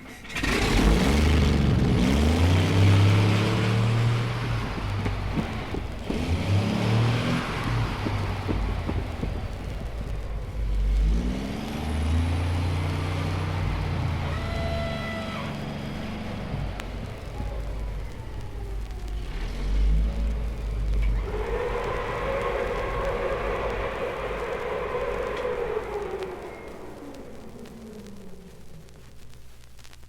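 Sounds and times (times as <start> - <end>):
car engine revving: 0.0 - 29.4
low engine hum: 0.2 - 29.0.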